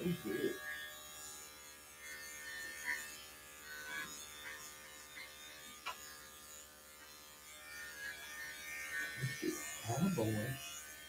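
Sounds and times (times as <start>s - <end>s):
electric clipper humming: 0.0s - 11.0s.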